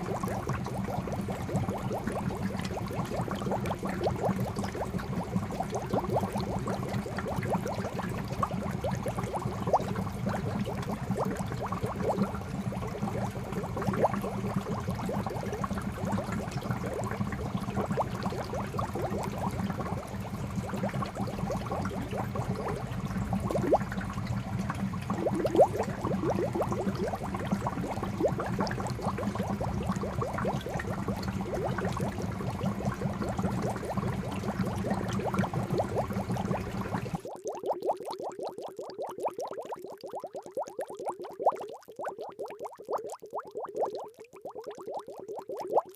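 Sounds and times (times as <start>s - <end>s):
fountain water splashing into pond: 0.0s - 39.0s.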